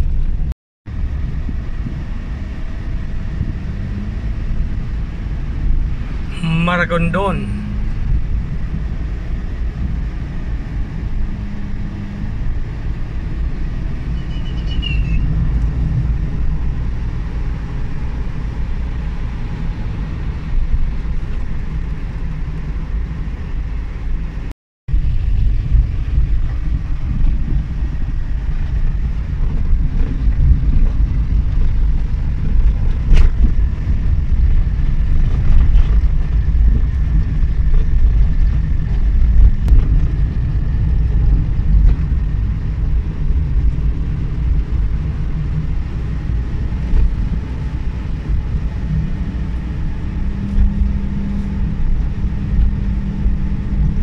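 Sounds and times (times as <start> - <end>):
car engine running: 0.0 - 54.0
road noise rumble: 0.0 - 54.0.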